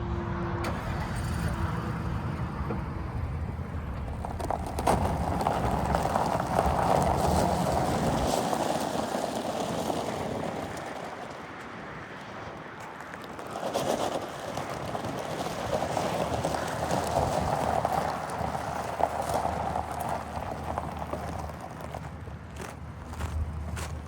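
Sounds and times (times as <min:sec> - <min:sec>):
truck engine running: 0:00.6 - 0:24.0.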